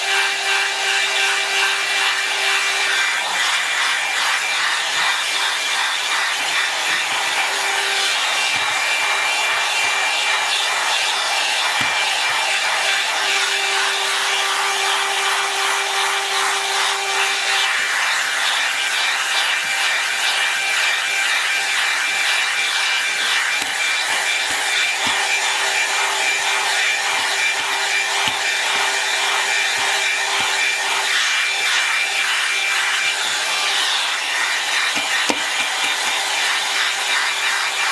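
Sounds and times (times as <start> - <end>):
brush rubbing through hair: 0.0 - 37.9
hair dryer air rush: 0.0 - 37.9.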